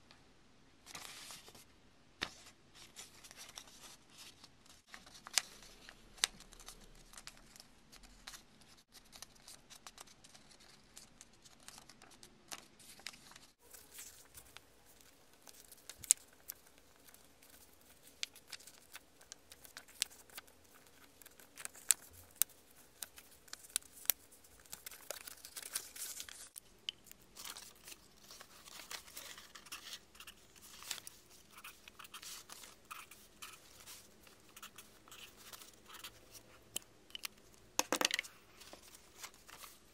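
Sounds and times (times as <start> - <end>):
paper crinkling and rustling: 0.9 - 1.6, 2.2 - 37.5, 38.2 - 39.9.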